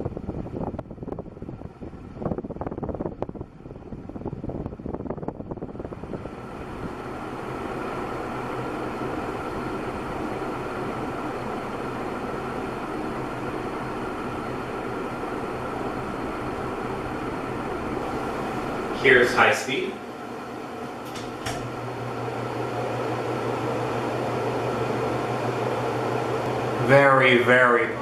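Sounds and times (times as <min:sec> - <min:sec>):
ceiling fan air rush: 0:00.0 - 0:28.0
fan motor hum: 0:00.0 - 0:28.0.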